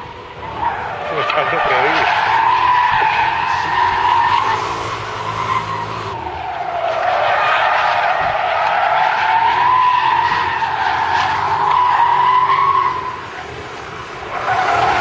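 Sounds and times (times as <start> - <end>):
car engine: 0.0 - 15.0
tyres squealing: 0.4 - 15.0.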